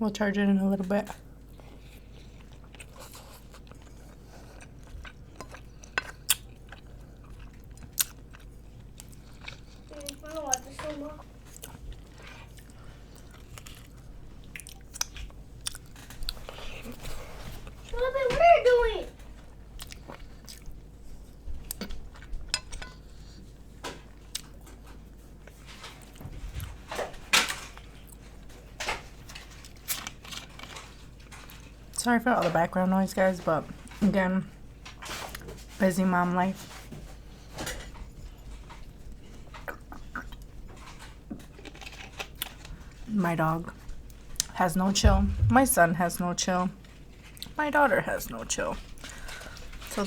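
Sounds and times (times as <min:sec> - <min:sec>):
soft chewing: 0:00.7 - 0:18.2, 0:19.0 - 0:32.1, 0:36.4 - 0:45.6, 0:46.7 - 0:50.0.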